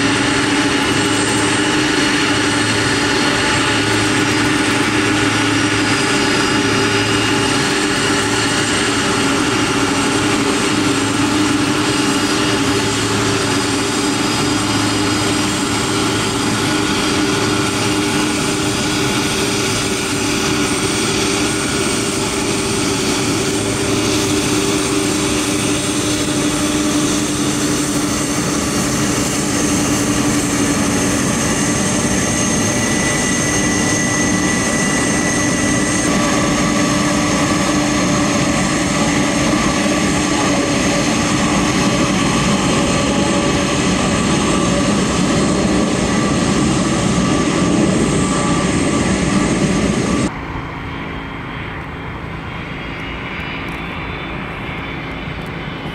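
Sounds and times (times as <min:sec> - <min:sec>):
aircraft engines roaring: 0:00.0 - 0:55.9
whining engine tones: 0:00.0 - 0:55.9.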